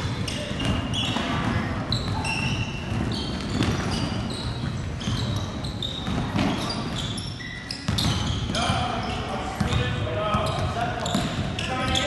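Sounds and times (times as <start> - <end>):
sneaker squeaks: 0.0 - 12.0.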